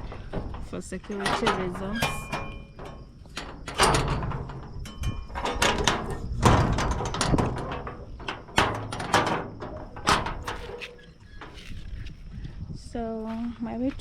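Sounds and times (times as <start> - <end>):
gate knocking and clanking: 0.0 - 12.0
gate rattling: 0.0 - 12.0.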